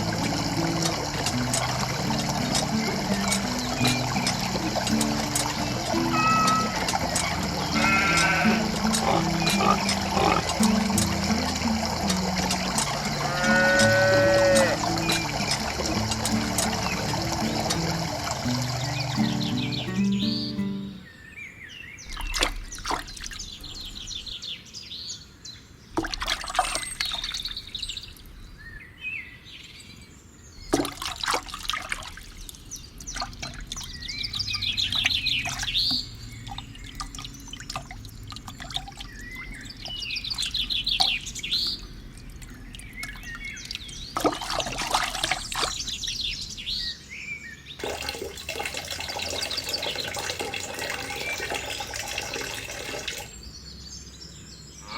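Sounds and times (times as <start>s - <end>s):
trickling water: 0.0s - 21.1s, 22.0s - 24.6s, 25.8s - 28.8s, 30.4s - 54.0s
small birds chirping: 0.0s - 31.0s, 32.1s - 54.9s.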